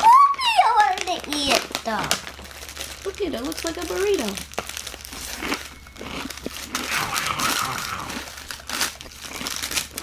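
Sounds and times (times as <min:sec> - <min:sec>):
foil wrappers crinkling: 0:00.0 - 0:10.0.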